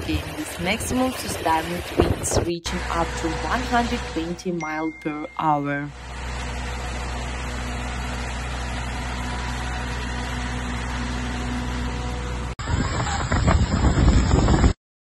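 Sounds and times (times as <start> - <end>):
constant mechanical hum: 0.0 - 14.8
wind: 0.0 - 14.8.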